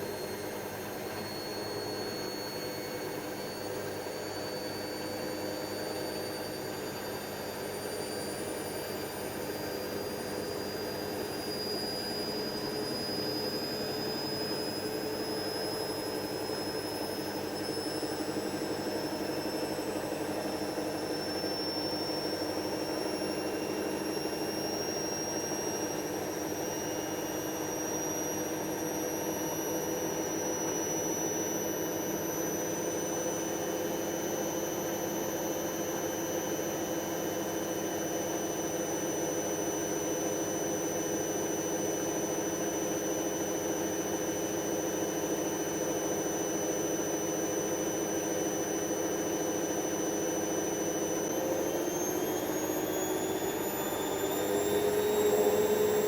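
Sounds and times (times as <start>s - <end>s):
washing machine spinning whine: 0.0s - 56.0s.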